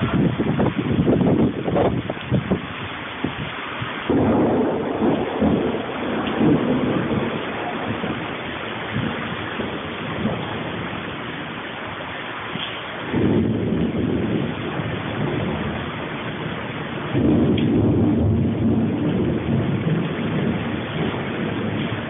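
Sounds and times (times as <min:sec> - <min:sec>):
rain falling: 0:00.0 - 0:22.0
thunder rumble: 0:00.0 - 0:22.0.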